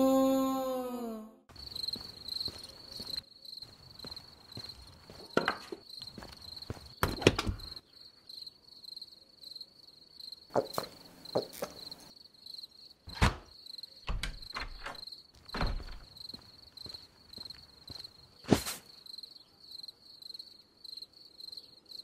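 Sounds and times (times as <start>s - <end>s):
cricket chirring: 1.5s - 22.0s.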